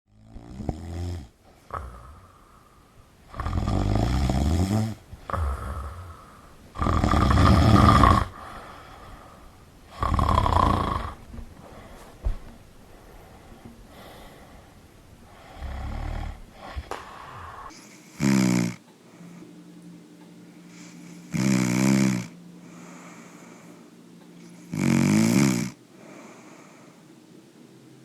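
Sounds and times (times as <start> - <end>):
person snoring: 0.2 - 19.4, 20.7 - 23.8, 24.4 - 27.0.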